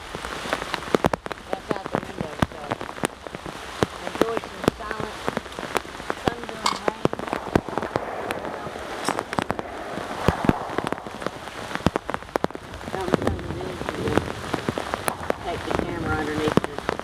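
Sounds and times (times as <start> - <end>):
raindrops ticking close by: 0.0 - 17.0
steady rain: 0.0 - 17.0.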